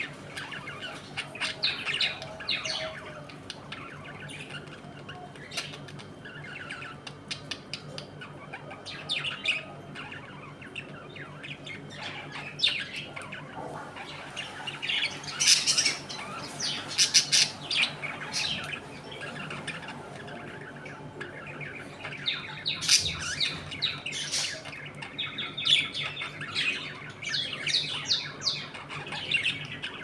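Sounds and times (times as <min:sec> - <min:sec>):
budgerigars chattering and squawking: 0:00.0 - 0:30.0
faint low hum: 0:00.0 - 0:30.0.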